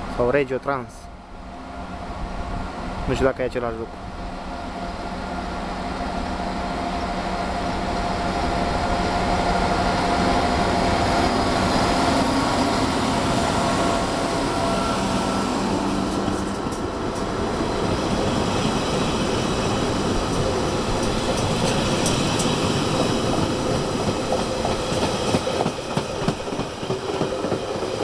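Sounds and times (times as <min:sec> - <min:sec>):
train wheel and rail noise: 0:00.0 - 0:28.0
electric locomotive hum: 0:00.8 - 0:28.0.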